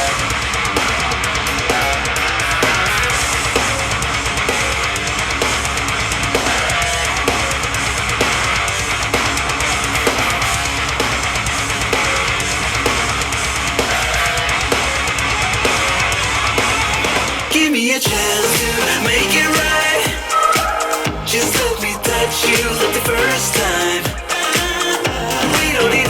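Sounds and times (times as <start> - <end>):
rock music from speaker: 0.0 - 26.0.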